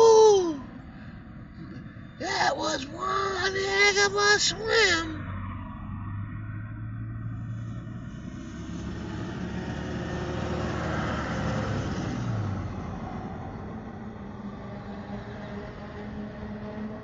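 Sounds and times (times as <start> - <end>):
vehicle passing by: 2.8 - 17.0.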